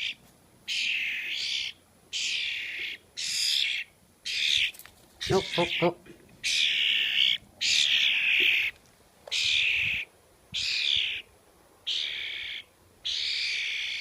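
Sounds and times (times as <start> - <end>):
young bird screeching: 0.0 - 14.0.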